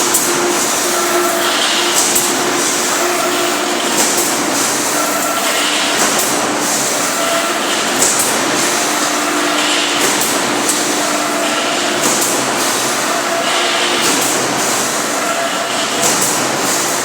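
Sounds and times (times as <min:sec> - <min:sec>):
industrial machine din: 0:00.0 - 0:16.7.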